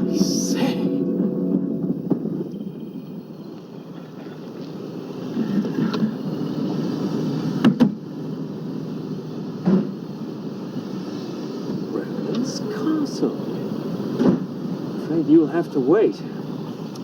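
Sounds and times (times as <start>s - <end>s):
railway train rumbling: 0.0s - 17.0s.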